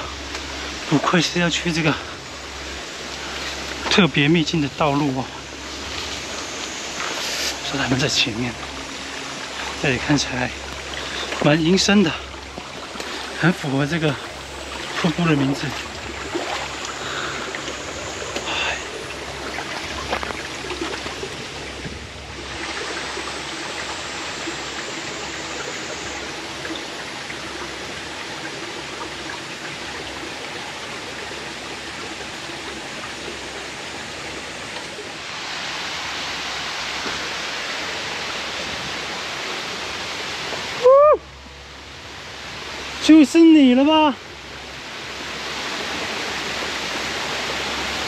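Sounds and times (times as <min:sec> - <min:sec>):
rushing creek and waterfall: 0:00.0 - 0:48.0.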